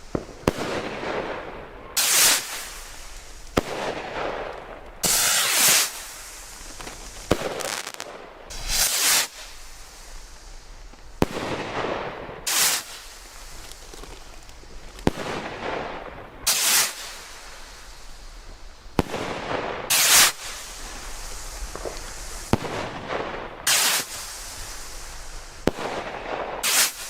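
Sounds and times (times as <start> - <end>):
firework burst: 0.0 - 27.0
firework crack: 0.0 - 27.0.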